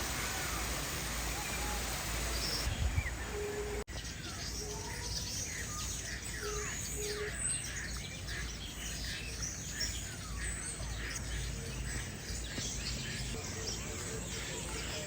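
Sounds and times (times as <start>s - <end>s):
birds whistling and chirping: 1.3s - 15.0s.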